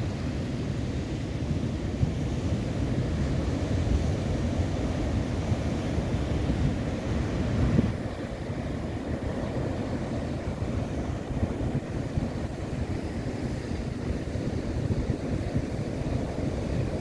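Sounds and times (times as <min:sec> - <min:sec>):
ocean surf breaking on boulders: 0:00.0 - 0:17.0.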